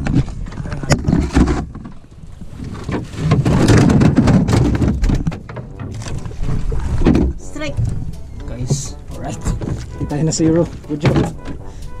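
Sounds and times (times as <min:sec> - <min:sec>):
knocks and rubbing on wooden boat: 0:00.0 - 0:11.6.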